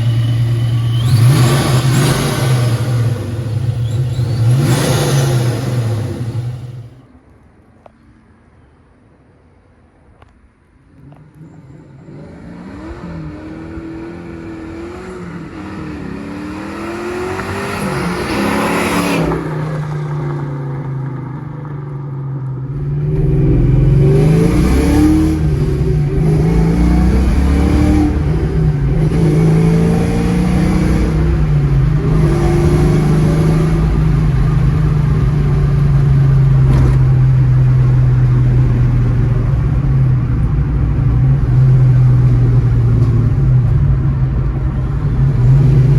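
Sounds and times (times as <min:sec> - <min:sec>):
car engine revving: 0:00.0 - 0:07.0, 0:11.0 - 0:21.9, 0:22.6 - 0:45.9.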